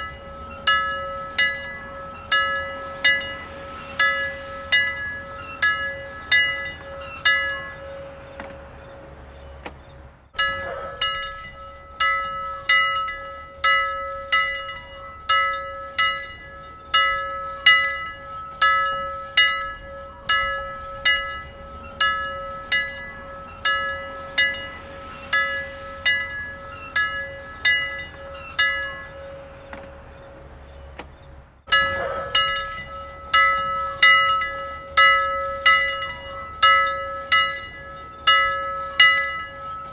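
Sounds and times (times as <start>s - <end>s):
church bells ringing: 0.0s - 31.0s, 31.7s - 39.9s.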